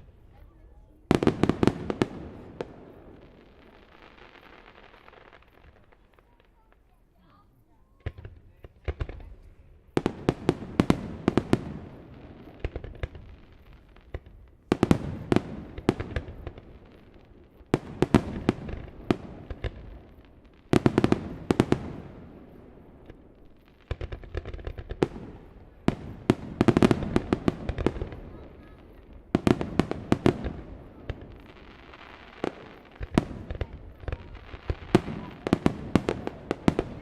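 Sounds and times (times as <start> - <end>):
fireworks bangs and cracks: 0.0 - 37.0.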